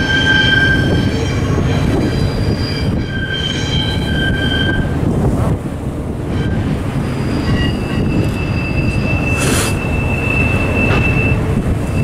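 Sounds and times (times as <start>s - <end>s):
high wheel squeal: 0.0s - 5.0s, 6.3s - 12.0s.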